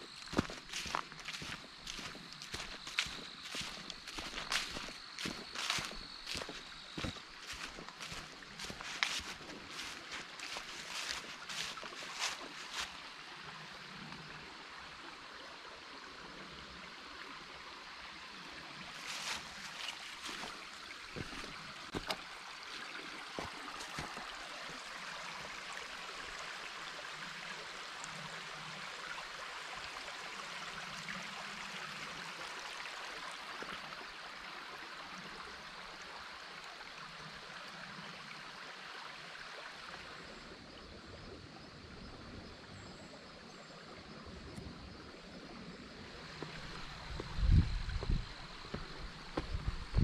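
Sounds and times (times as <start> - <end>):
stream running over rocks: 0.0 - 50.0.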